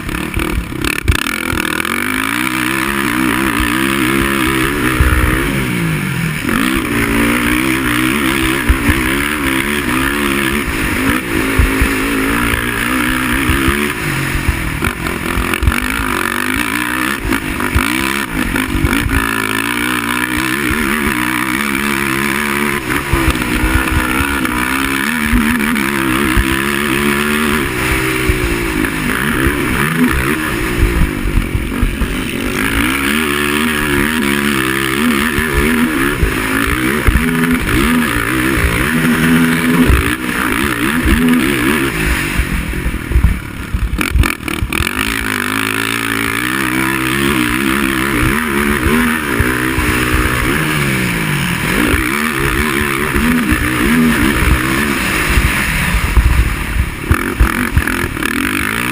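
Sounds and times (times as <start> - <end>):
low thumps: 0.0 - 58.9
quad engine revving: 0.0 - 58.9
rushing noise: 0.0 - 58.9.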